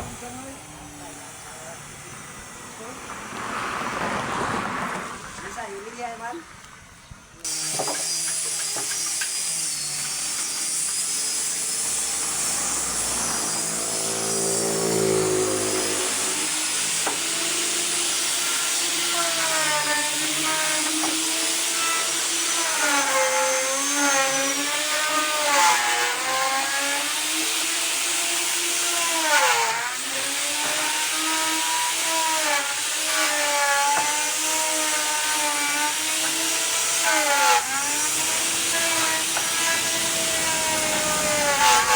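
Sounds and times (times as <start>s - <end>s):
power saw cutting wood: 0.0s - 41.9s.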